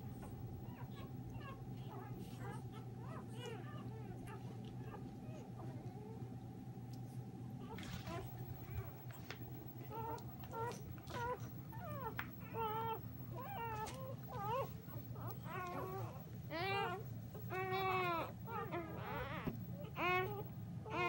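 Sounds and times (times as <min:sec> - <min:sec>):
puppies whining and squealing: 0:00.0 - 0:06.4, 0:07.6 - 0:21.0.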